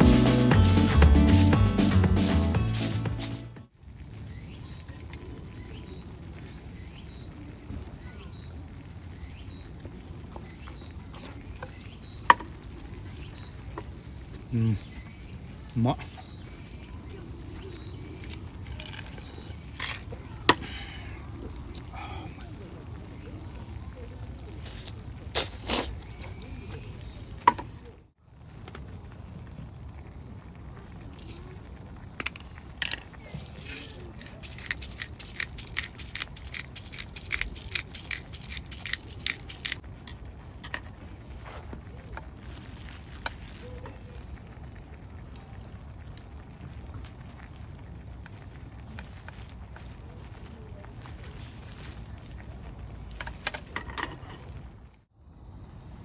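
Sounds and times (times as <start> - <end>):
insects trilling: 3.9 - 56.0.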